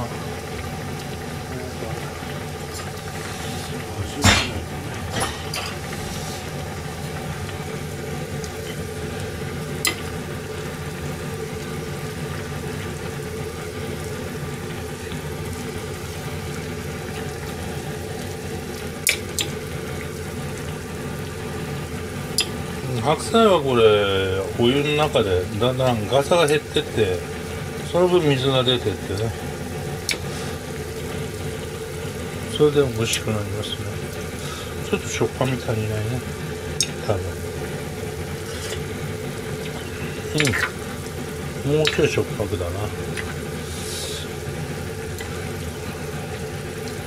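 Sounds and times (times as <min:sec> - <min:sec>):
broth boiling in a pot: 0:00.0 - 0:47.0.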